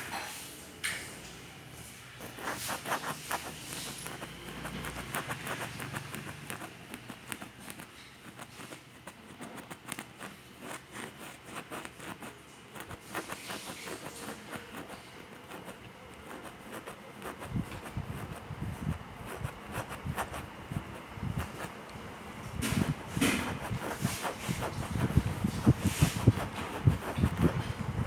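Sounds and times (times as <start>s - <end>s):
kitten paws tapping and pattering: 2.2s - 28.0s.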